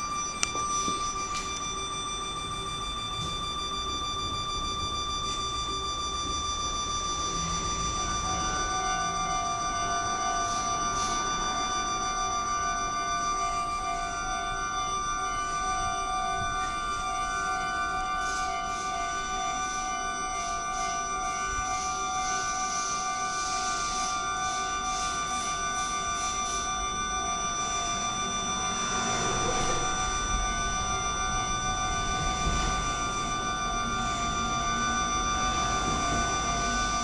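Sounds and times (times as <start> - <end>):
level-crossing alarm ringing: 0.0 - 37.0.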